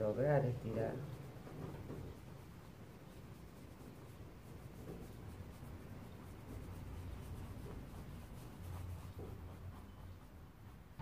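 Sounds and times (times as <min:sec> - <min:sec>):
paintbrush strokes on canvas: 0:00.0 - 0:11.0.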